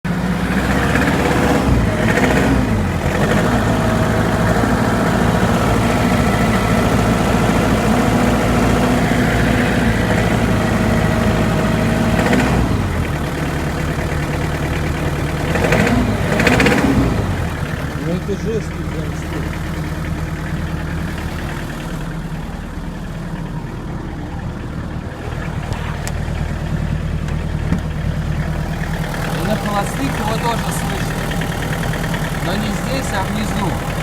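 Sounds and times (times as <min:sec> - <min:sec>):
engine running with hard knock: 0:00.1 - 0:34.0.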